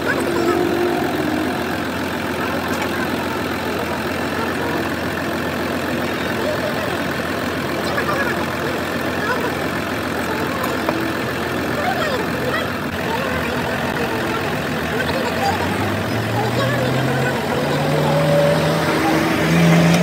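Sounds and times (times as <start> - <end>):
faint voices: 0.0 - 20.0
vehicle engine idling: 0.0 - 20.0.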